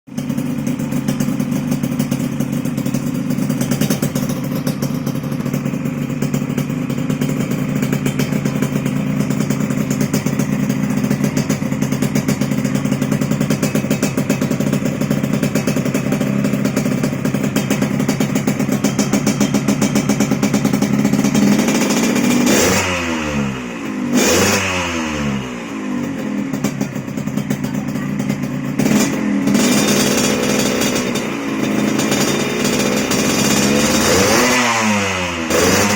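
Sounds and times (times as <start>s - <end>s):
motorcycle idling and revving: 0.0s - 35.9s.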